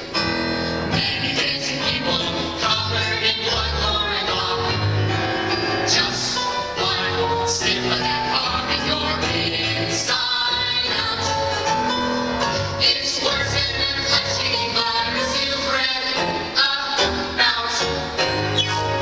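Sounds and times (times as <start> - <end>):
song with singing: 0.0 - 19.0.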